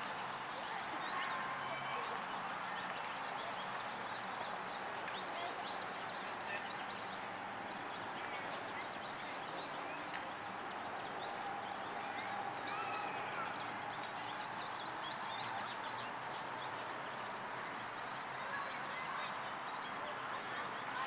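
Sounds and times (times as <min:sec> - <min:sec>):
small birds chirping: 0:00.1 - 0:21.0.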